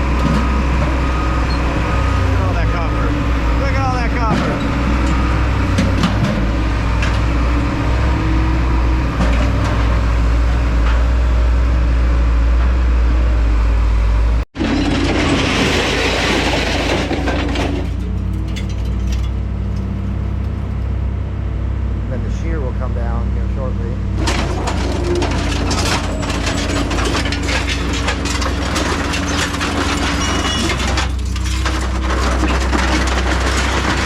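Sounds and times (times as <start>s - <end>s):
heavy machine engine humming: 0.0s - 14.4s, 16.5s - 34.0s.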